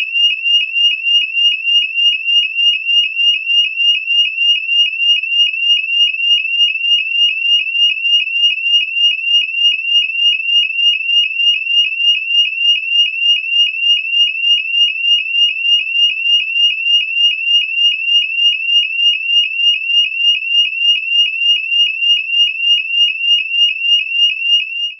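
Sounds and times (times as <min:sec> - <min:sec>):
fire alarm pulsing tone: 0:00.0 - 0:25.0.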